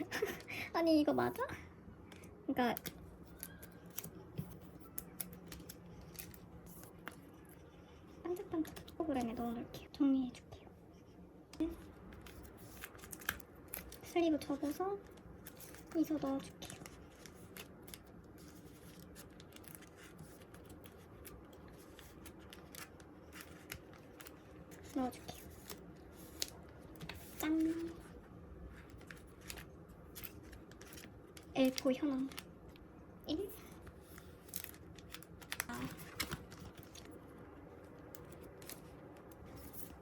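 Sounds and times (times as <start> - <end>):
plastic sleeves rustling: 0.0 - 9.8, 11.6 - 40.0.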